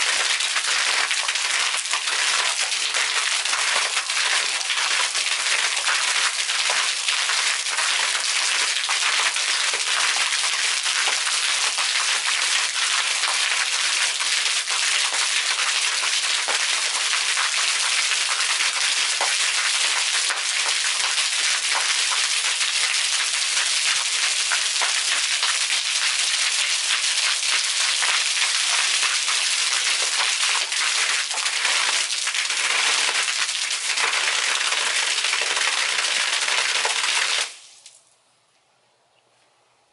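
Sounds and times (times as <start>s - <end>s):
fountain water splashing: 0.0s - 37.9s.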